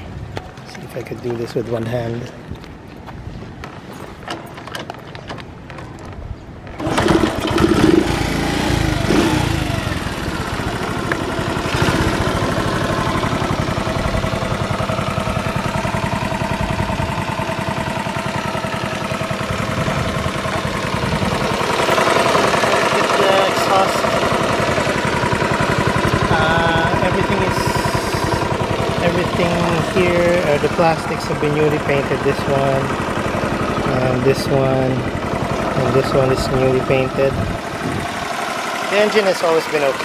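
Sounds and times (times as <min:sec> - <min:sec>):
motorcycle engine starting and idling: 0:06.6 - 0:40.0.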